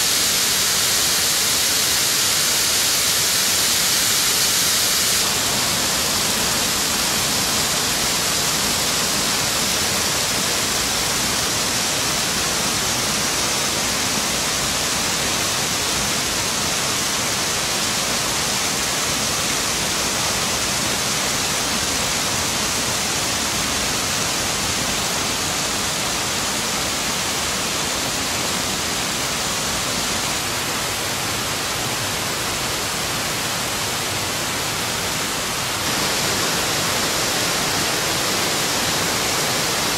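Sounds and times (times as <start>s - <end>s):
torrent water rushing: 0.0s - 39.9s.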